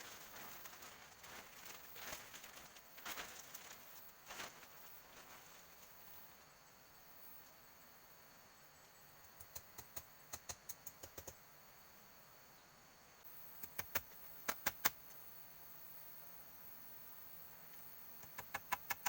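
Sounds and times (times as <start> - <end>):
forest insects buzzing: 0.0 - 19.0.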